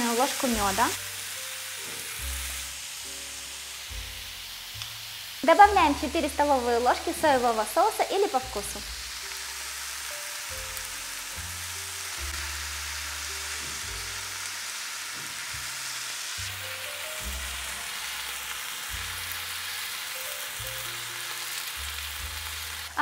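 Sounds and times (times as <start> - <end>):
food sizzling in a frying pan: 0.0 - 23.0
soft background music: 0.0 - 23.0.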